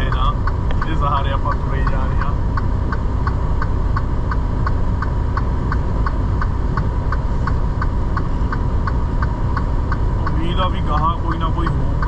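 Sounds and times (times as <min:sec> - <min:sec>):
regular ticking: 0:00.0 - 0:12.0
truck engine and road rumble: 0:00.0 - 0:12.0.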